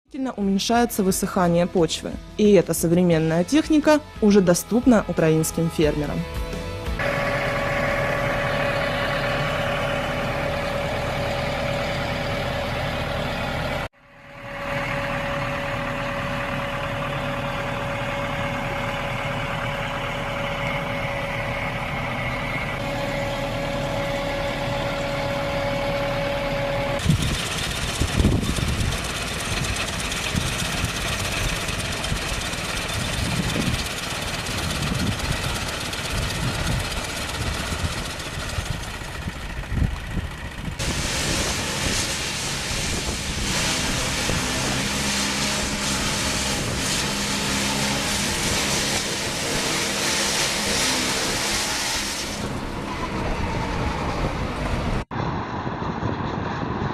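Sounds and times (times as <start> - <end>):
farm machinery engines running: 0.2 - 56.9
steady whine: 4.3 - 56.9
small gasoline engine running: 6.5 - 54.0.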